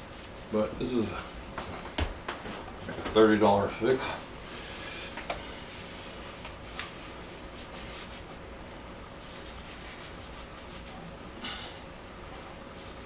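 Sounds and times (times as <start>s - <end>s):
faint steady hum: 0.0s - 13.0s
rubbing and wiping: 2.3s - 13.0s.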